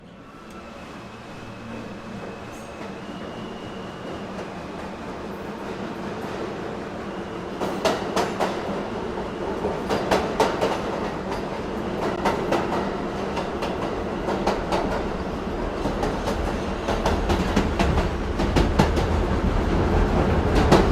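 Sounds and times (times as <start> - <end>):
subway train rumble: 0.0 - 20.9.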